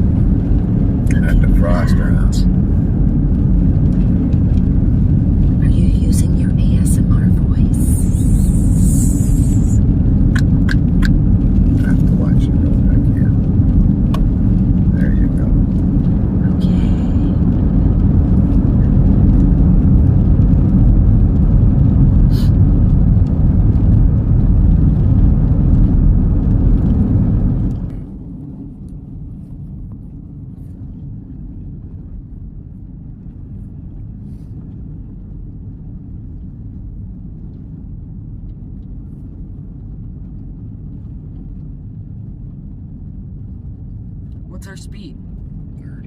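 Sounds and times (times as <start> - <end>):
car road and engine rumble: 0.0 - 46.0.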